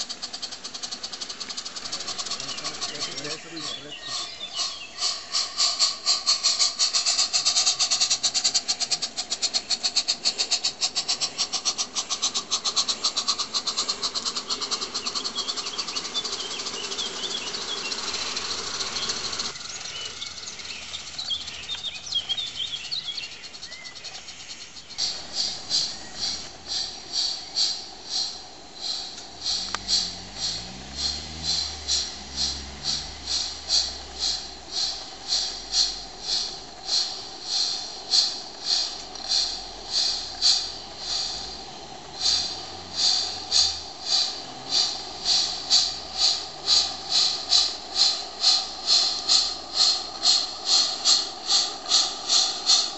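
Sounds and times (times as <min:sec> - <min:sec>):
birds chirping: 0:00.0 - 0:52.9
model steam locomotive chuffing: 0:00.0 - 0:52.9
slow exhaust chuffs: 0:00.0 - 0:52.9.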